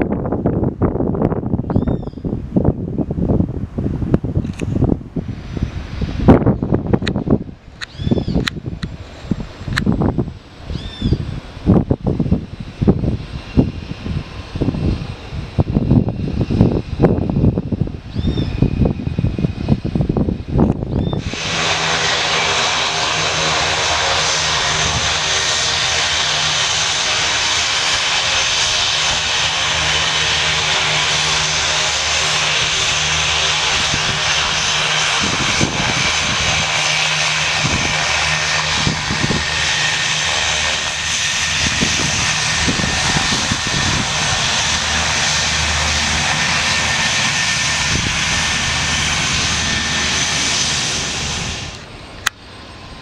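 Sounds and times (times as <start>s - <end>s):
helicopter engine whine: 4.3s - 53.0s
helicopter rotor noise: 4.3s - 53.0s.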